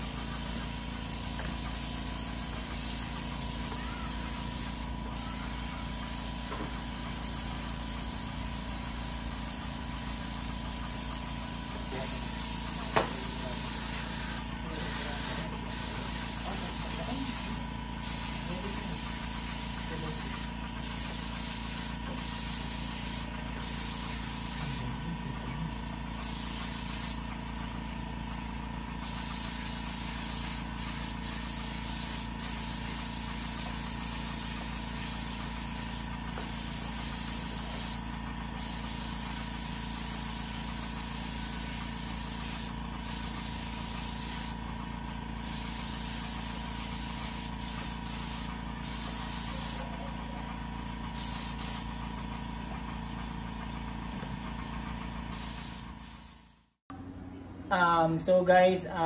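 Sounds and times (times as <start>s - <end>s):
paint spray gun hissing: 0.0s - 25.0s, 25.9s - 50.2s, 51.0s - 52.2s, 55.2s - 56.8s
small air compressor running: 0.0s - 57.6s.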